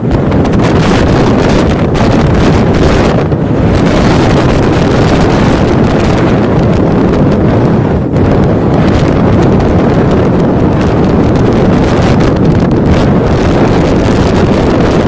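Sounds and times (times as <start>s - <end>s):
heavy seas breaking along hull: 0.0s - 15.0s
strong wind buffeting microphone: 0.0s - 15.0s.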